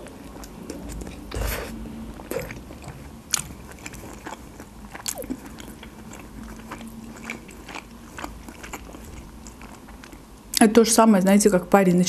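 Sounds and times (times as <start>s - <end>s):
chewing soft food: 0.0s - 10.6s.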